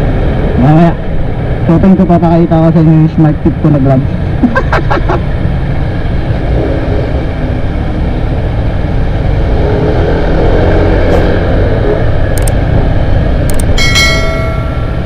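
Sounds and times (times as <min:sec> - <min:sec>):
wind and road rumble: 0:00.0 - 0:15.0.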